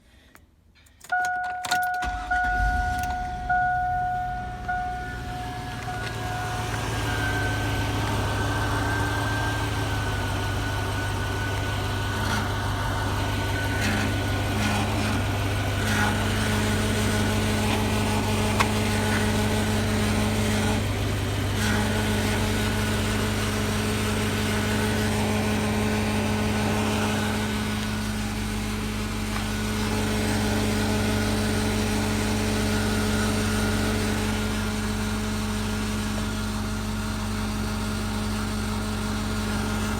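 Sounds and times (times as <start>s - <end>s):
vehicle engine humming and whining: 1.0s - 39.9s.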